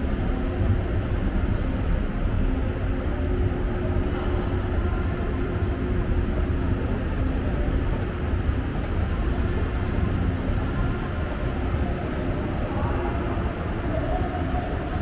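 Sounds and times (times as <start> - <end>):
continuous low rumble: 0.0 - 15.0
faint indistinct voices: 0.0 - 15.0.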